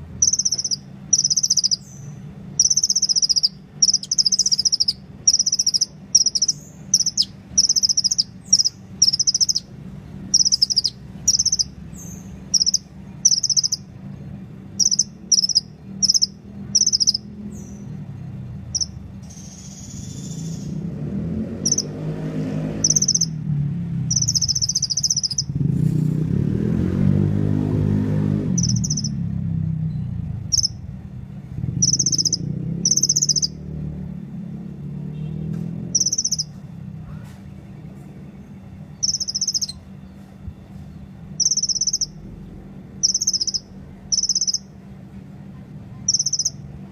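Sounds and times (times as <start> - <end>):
bird singing buzzy trills: 0.0 - 25.7, 26.7 - 34.2, 35.8 - 36.6, 37.7 - 44.9, 45.9 - 46.9
low droning hum: 0.0 - 35.0, 35.6 - 46.9.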